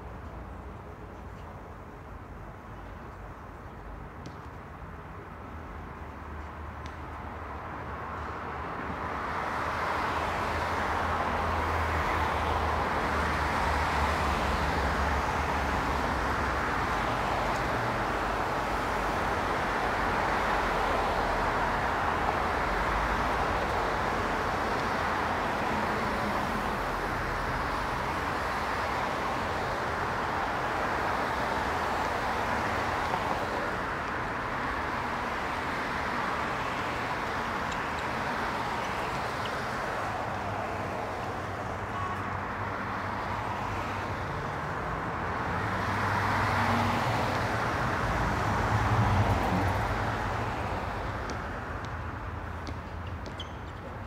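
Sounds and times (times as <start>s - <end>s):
cars driving past: 6.8s - 54.0s.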